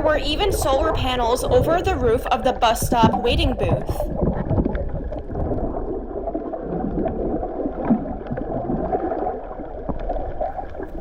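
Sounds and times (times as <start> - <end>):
muffled gurgling water: 0.0 - 11.0.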